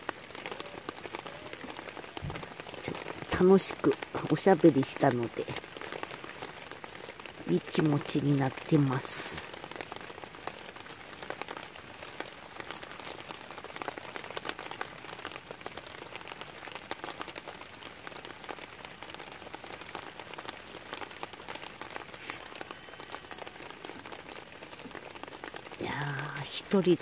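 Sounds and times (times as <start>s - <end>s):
rain pattering on a tarp: 0.0s - 27.0s.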